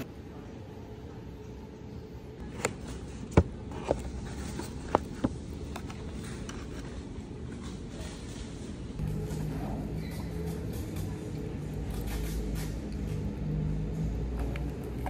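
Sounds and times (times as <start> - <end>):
steady low background hum: 0.0 - 15.0.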